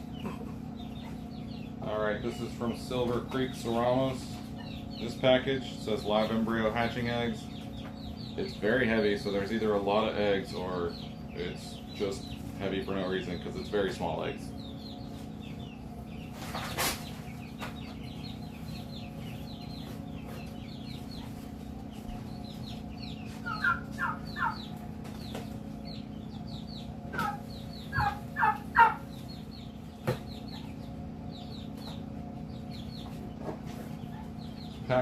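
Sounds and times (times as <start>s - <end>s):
chickens clucking: 0.0s - 35.0s
steady low hum: 0.0s - 35.0s.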